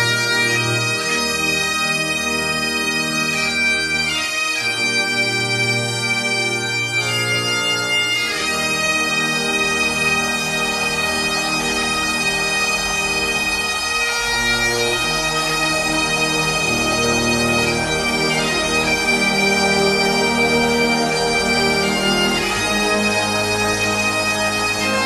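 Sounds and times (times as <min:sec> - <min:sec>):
bagpipes playing slow tune: 0:00.0 - 0:25.0.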